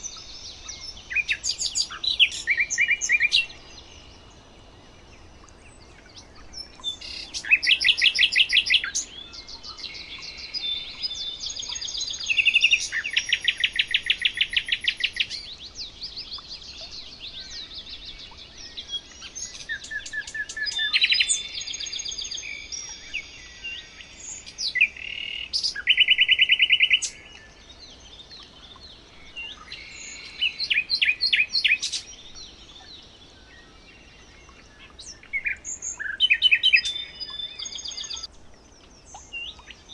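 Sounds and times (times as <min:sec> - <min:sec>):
birds singing trills and chirps: 0:00.0 - 0:39.9.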